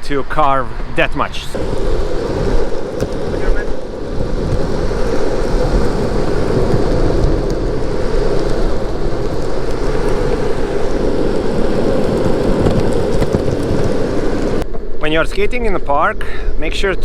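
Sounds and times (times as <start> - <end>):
longboard wheels rumbling: 0.0 - 16.8
wind on microphone: 0.0 - 17.0.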